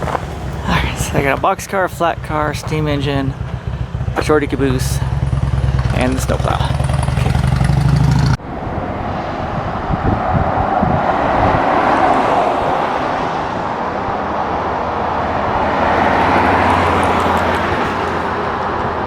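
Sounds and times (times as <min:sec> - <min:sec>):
car road and wind noise: 0:00.0 - 0:19.0
low engine hum: 0:00.0 - 0:19.0.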